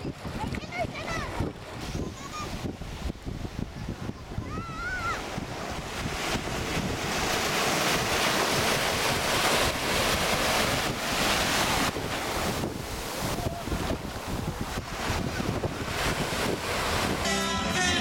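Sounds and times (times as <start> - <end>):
surf breaking in shallow water: 0.0 - 17.3
wind buffeting microphone: 0.0 - 17.3.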